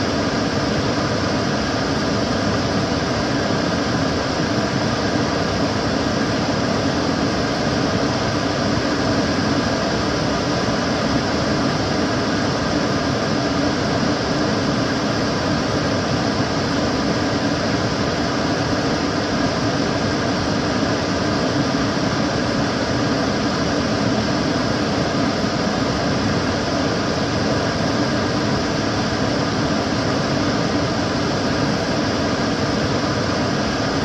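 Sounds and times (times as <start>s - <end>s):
extractor fan running: 0.0s - 34.0s.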